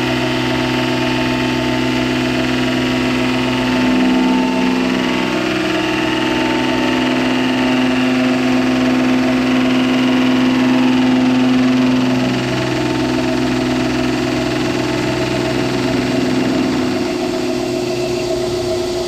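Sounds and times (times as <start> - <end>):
machine tool motor humming: 0.0 - 19.0.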